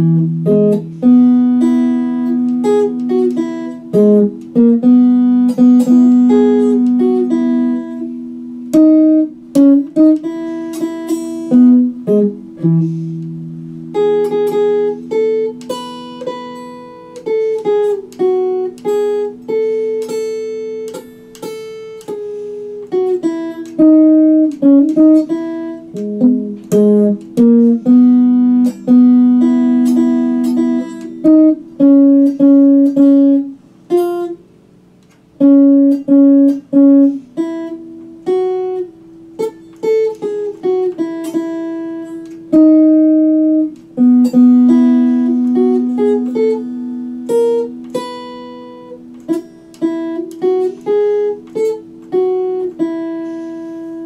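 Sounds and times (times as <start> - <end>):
electric guitar slow melody: 0.0 - 54.0.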